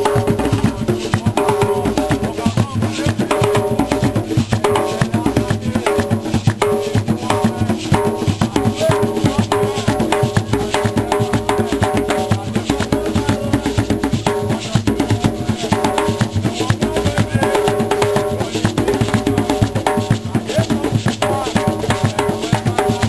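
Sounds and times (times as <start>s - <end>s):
hand drums playing fast rhythm: 0.0s - 23.0s.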